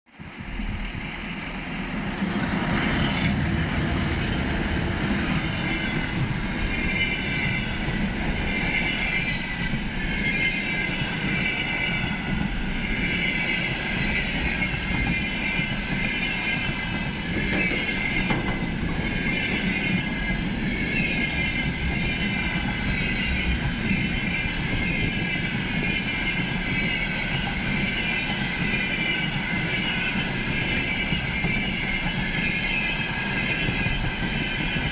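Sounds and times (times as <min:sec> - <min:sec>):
train rumble and rail clatter: 0:00.1 - 0:34.9.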